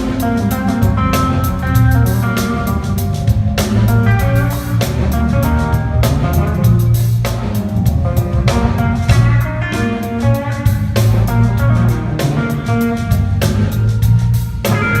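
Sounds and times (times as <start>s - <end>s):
bass: 0.0s - 15.0s
drum kit: 0.0s - 15.0s
electric guitar lead: 0.0s - 15.0s
piano: 0.0s - 15.0s.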